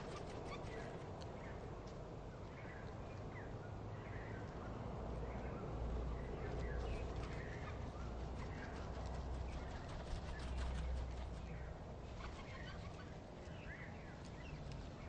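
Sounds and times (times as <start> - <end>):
small birds chirping: 2.3 - 15.0.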